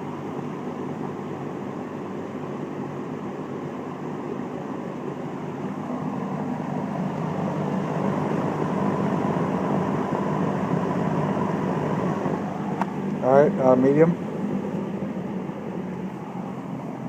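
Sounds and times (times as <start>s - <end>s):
box fan rushing air: 0.0s - 17.0s.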